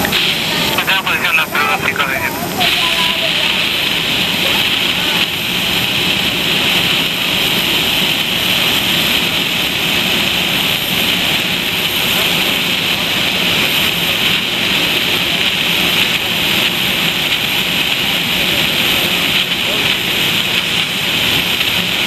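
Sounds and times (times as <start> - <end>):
jet engines whining: 0.0 - 22.0
rain hissing: 0.0 - 22.0.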